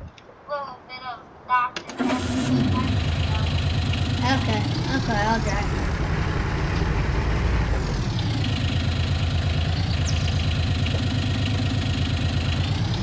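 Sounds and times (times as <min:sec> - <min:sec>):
utility vehicle engine pulsing: 0:01.9 - 0:13.0.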